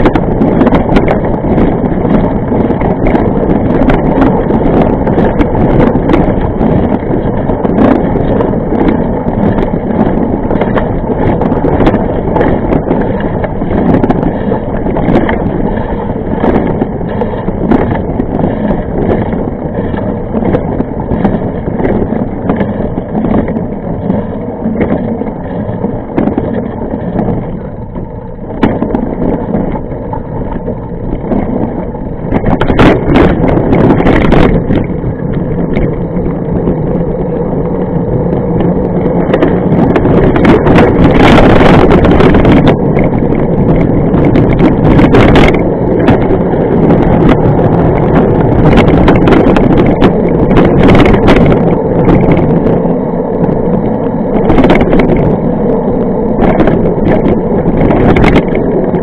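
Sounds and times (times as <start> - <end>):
mountain bike rumbling and rattling: 0.0 - 59.0.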